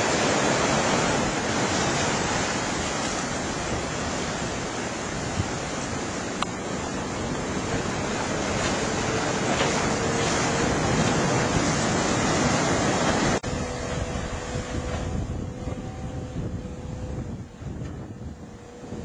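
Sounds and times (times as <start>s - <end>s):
outboard motor droning: 0.0s - 19.0s
wind buffeting microphone: 0.0s - 19.0s.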